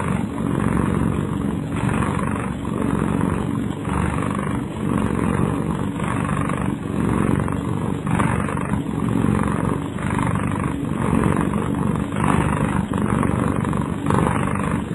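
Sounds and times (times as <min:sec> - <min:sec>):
cat snoring: 0:00.0 - 0:14.9.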